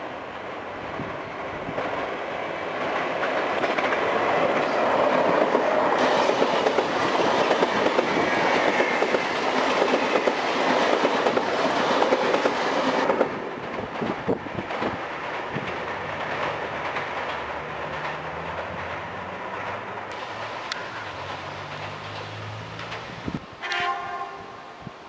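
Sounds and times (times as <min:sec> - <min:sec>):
train wheels clattering on rails: 0:00.4 - 0:24.1.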